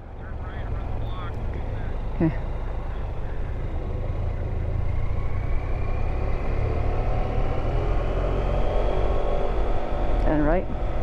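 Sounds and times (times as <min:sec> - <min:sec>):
low wind rumble: 0:00.0 - 0:11.0
motorcycle engine accelerating: 0:00.4 - 0:11.0.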